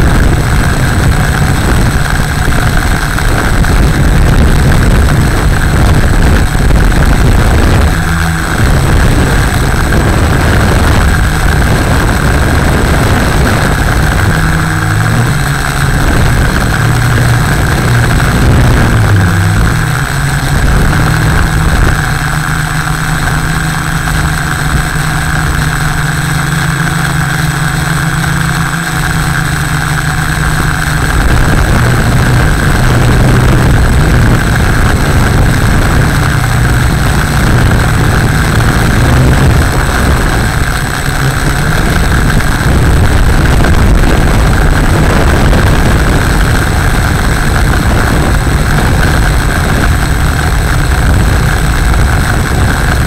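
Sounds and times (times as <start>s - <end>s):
drone motors and propellers: 0.0s - 53.0s
low rumble: 0.0s - 53.0s.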